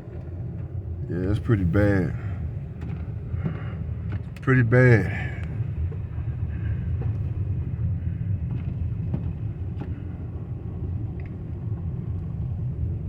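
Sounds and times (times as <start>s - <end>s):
car driving on snowy road: 0.0s - 13.0s.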